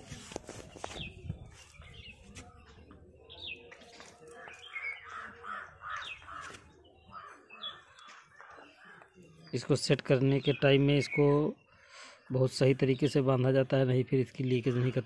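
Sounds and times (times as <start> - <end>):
birds calling: 0.0 - 15.0
harsh repeated bird calls: 0.7 - 13.6.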